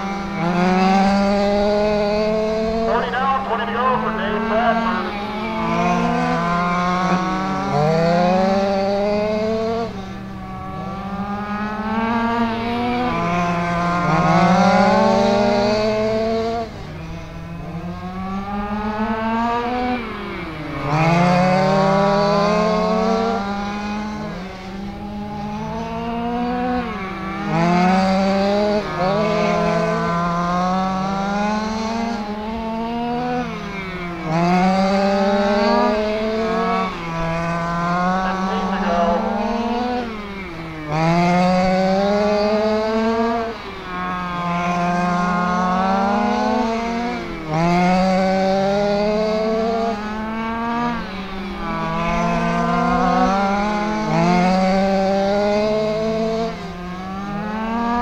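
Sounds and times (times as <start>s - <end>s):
rc car engines racing: 0.0s - 58.0s.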